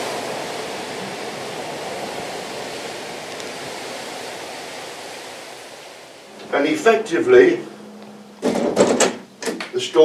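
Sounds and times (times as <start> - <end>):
open air rushing: 0.0 - 10.0.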